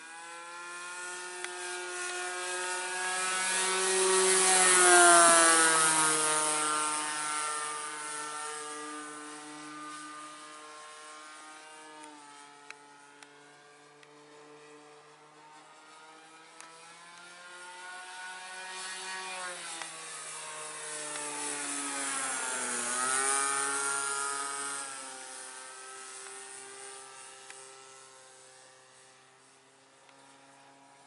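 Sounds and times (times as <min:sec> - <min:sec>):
model airplane engine flying overhead: 0:00.0 - 0:31.0.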